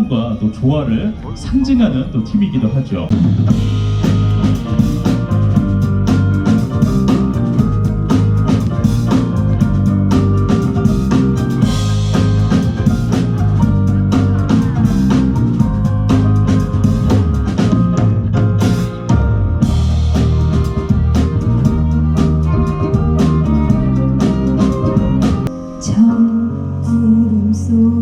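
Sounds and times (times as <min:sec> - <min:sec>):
sustained pitched notes: 0:00.0 - 0:28.0
drum kit beat: 0:03.1 - 0:25.6.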